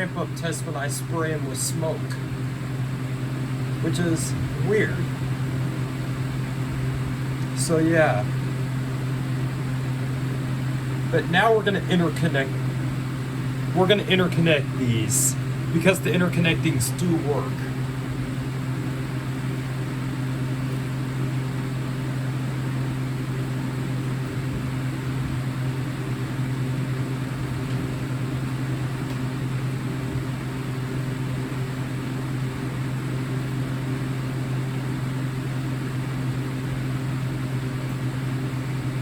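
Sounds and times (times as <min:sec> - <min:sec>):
machine humming with hiss: 0:00.0 - 0:39.0.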